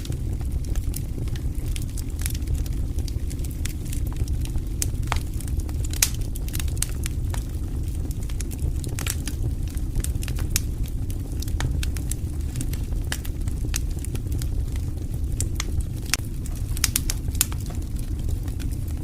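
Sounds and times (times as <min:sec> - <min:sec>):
fire crackling and popping: 0:00.0 - 0:19.0
low rumble of burning fire: 0:00.0 - 0:19.0.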